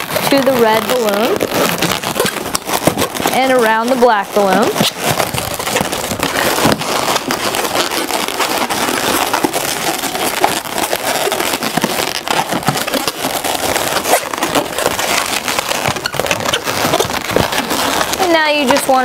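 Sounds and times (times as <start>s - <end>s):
balloons squeaking and rubbing: 0.0s - 19.0s.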